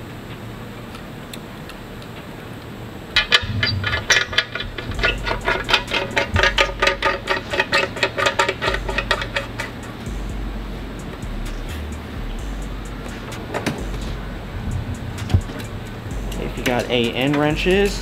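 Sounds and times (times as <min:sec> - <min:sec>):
music with ticking beat: 0:03.2 - 0:18.0.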